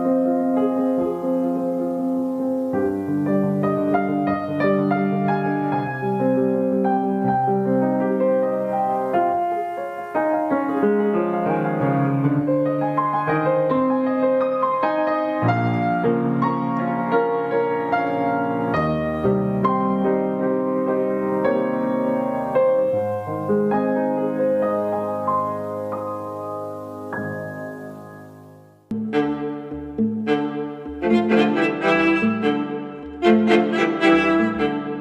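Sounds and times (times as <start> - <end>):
soft piano piece: 0.0 - 35.0.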